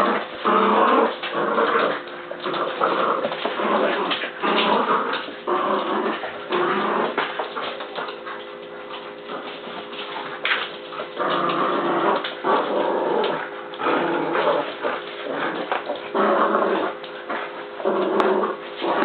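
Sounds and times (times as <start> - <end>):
puppies growling: 0.0 - 19.0.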